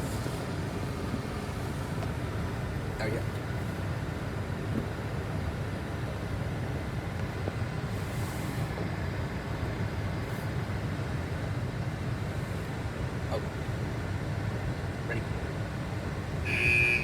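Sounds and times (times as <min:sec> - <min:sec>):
car idling from inside cabin: 0:00.0 - 0:16.4.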